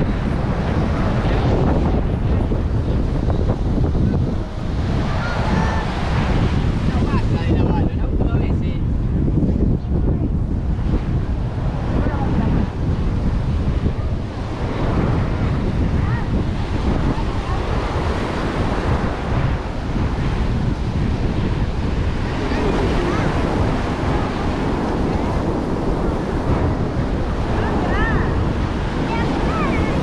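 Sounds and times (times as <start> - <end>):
faint voices: 0.0 - 20.3, 21.4 - 30.0
surf washing onto beach: 0.0 - 30.0
wind buffeting microphone: 0.0 - 30.0.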